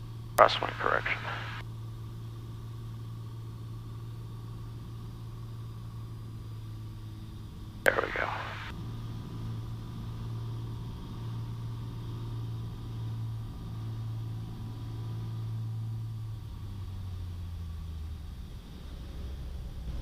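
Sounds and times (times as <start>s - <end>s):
airplane engine drone in cabin: 0.0s - 20.0s.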